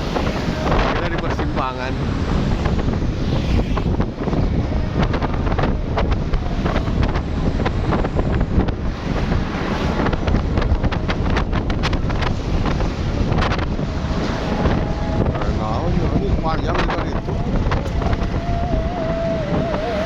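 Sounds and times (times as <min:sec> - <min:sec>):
vehicle rumble: 0:00.0 - 0:20.0
wind buffeting microphone: 0:00.0 - 0:20.0.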